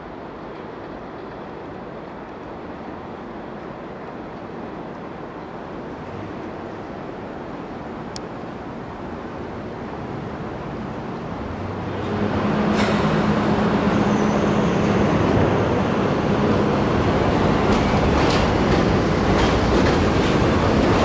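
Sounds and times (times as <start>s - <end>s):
train rumbling on elevated track: 0.0s - 21.0s.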